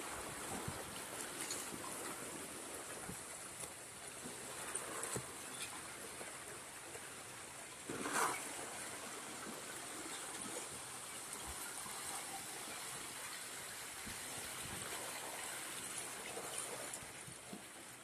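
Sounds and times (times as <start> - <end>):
ice and water rushing: 0.0 - 18.0.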